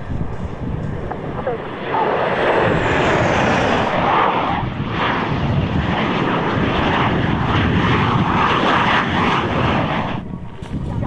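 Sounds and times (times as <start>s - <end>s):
aircraft engine: 0.0s - 11.0s.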